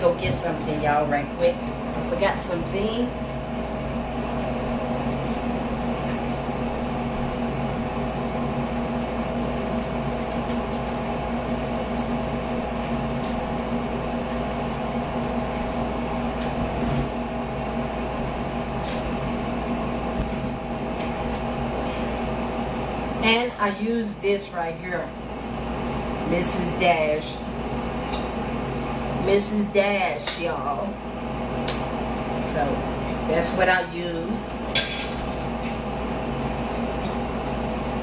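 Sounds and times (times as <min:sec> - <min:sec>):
appliance motor hum: 0:00.0 - 0:38.0.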